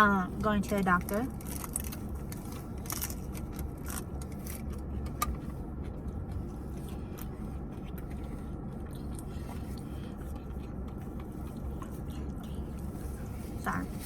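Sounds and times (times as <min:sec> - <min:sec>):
low hum in car cabin: 0:00.0 - 0:14.0.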